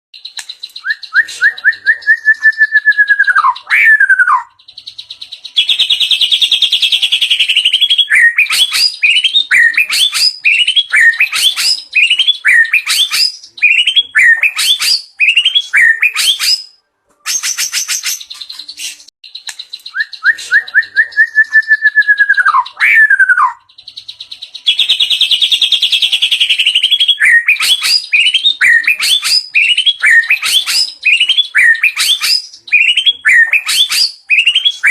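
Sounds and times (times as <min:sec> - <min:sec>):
songbird singing: 0:00.2 - 0:34.9.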